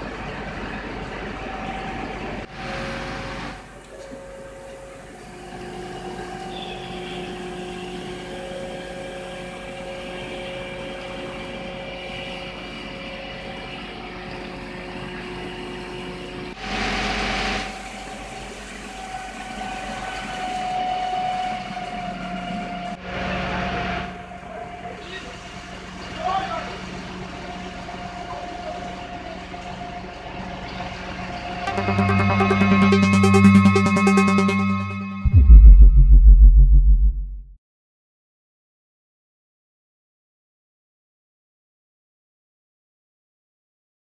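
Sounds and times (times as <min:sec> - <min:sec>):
fire engine and pump droning: 0:00.0 - 0:35.7.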